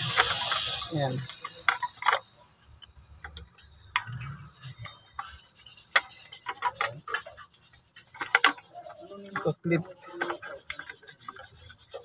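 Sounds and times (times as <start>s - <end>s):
hard plastic clicking and rubbing: 0.0s - 4.5s, 5.2s - 12.0s.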